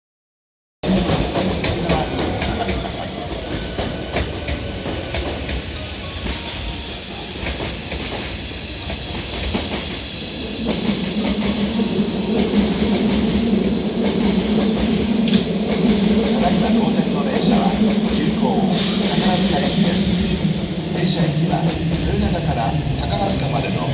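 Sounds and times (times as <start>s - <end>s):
train running noise with whine: 0.8s - 23.9s
train wheels clicking over rails: 0.9s - 22.3s.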